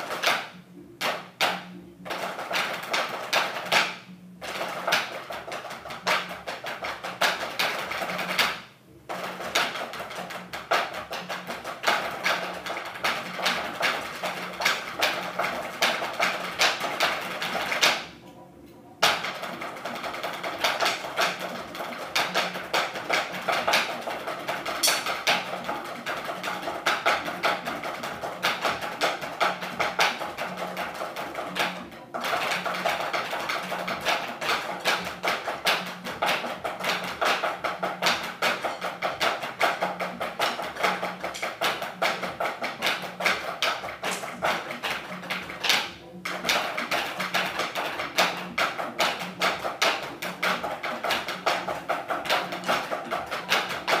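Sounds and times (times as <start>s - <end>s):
drumsticks on practice pads: 0.0s - 18.3s, 19.0s - 54.0s.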